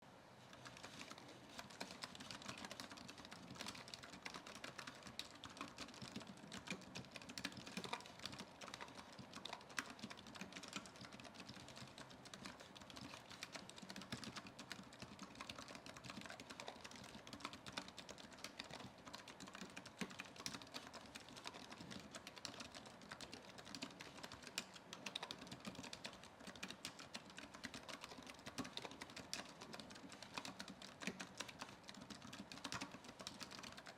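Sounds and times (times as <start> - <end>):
keyboard typing clicks: 0.5 - 33.9.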